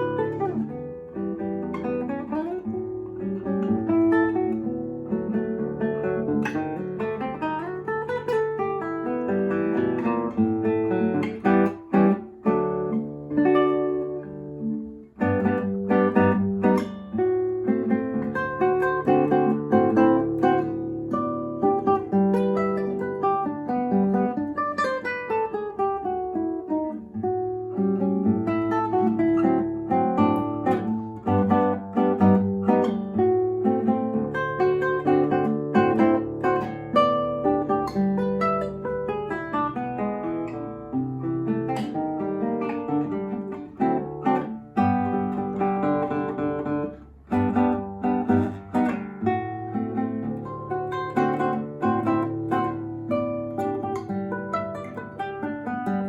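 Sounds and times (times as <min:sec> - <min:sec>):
fingerpicked acoustic guitar: 0:00.0 - 0:56.0.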